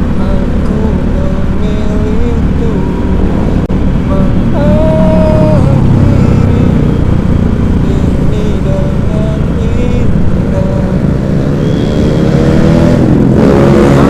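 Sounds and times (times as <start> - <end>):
engine speeding up: 0.0 - 14.0
road traffic rumble: 0.0 - 14.0.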